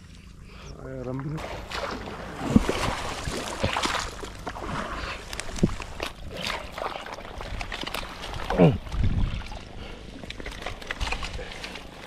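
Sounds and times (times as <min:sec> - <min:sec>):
water sloshing and splashing: 0:01.0 - 0:12.0.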